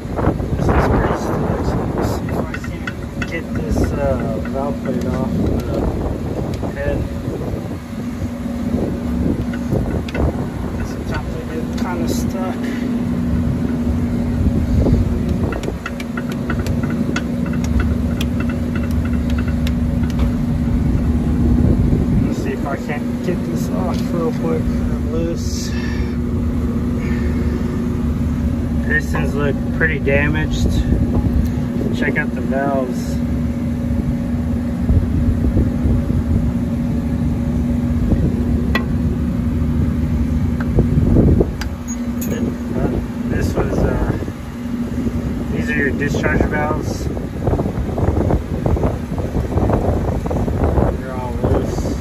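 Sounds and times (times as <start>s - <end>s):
machinery humming: 0.0s - 52.0s.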